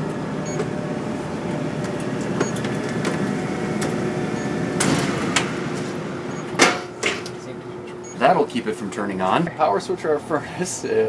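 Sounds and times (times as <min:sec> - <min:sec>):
furnace humming: 0:00.0 - 0:11.0.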